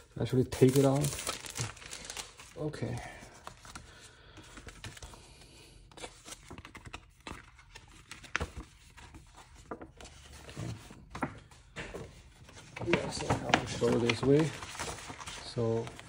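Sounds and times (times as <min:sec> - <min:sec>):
paper and plastic packaging rustling: 0:00.1 - 0:05.4, 0:06.0 - 0:16.0.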